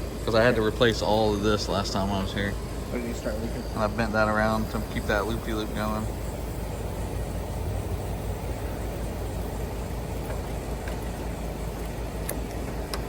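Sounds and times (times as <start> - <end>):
air conditioner units humming: 0.0 - 13.0.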